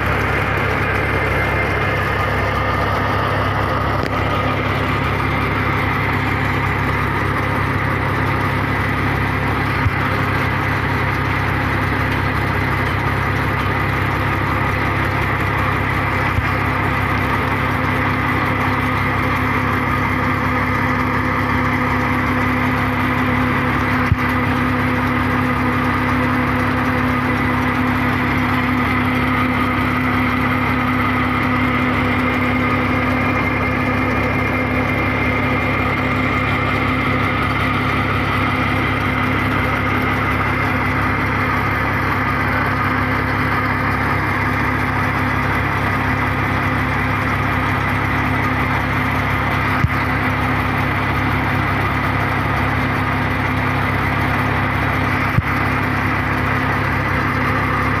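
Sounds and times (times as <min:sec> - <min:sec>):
drilling rig engine drone: 0:00.0 - 0:58.0.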